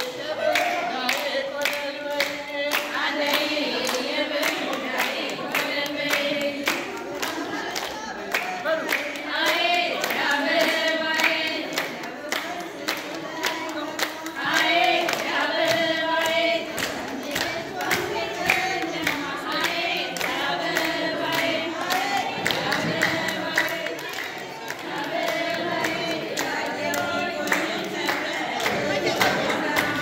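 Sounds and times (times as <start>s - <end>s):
group of people singing: 0.0s - 30.0s
hands clapping in rhythm: 0.0s - 30.0s.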